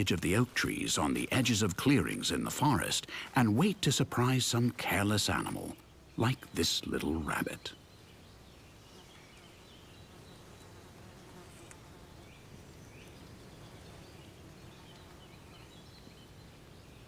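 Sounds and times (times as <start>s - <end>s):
flying insects buzzing: 0.0s - 16.9s.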